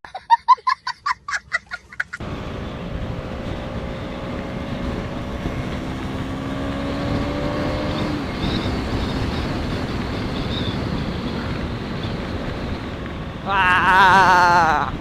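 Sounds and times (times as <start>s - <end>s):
wind on microphone: 2.6s - 15.0s.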